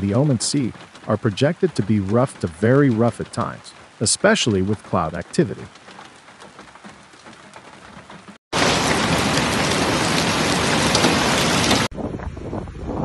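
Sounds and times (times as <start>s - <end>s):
heavy rain on pavement: 0.0s - 11.9s
light rain pattering: 0.0s - 11.9s.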